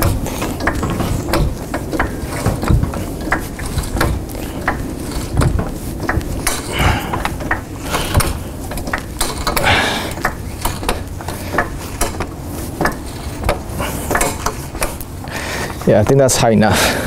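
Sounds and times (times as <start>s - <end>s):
hydraulic jack clacking: 0.0s - 17.0s.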